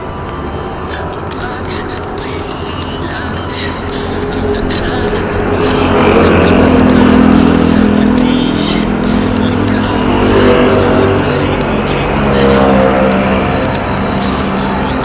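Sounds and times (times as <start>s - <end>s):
road and wind noise: 0.0s - 15.0s
vehicle engine running: 0.0s - 15.0s.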